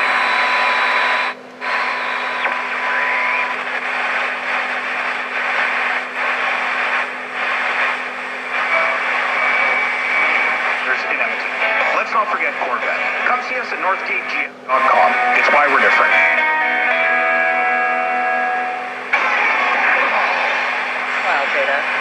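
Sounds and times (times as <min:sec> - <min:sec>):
radio hiss and static: 0:00.0 - 0:22.0.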